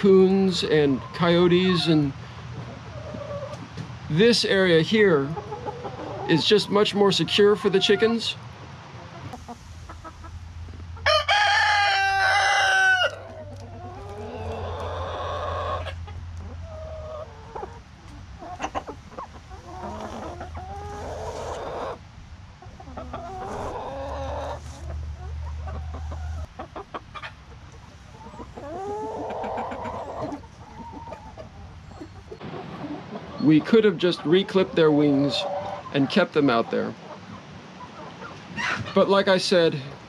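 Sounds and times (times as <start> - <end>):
hens clucking and squawking: 0.0 - 40.0.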